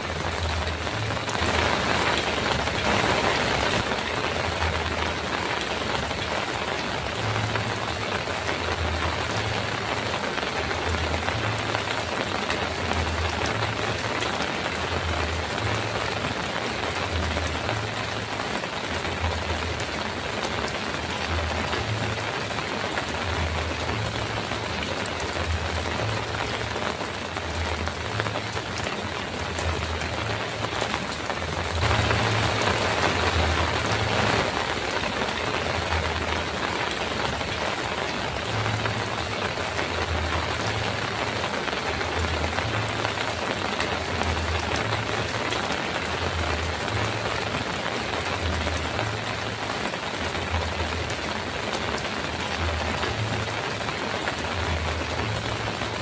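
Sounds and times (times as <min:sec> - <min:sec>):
heavy rain on metal roof: 0:00.0 - 0:56.0.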